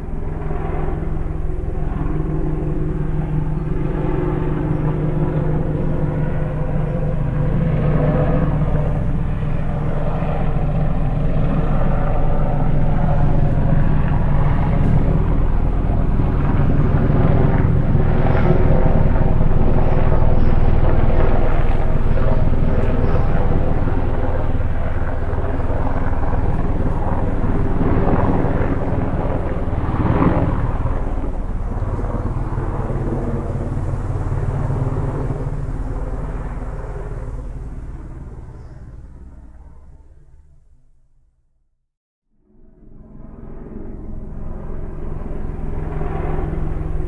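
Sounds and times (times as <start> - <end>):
helicopter engine and rotor: 0.0 - 40.7, 42.4 - 47.0.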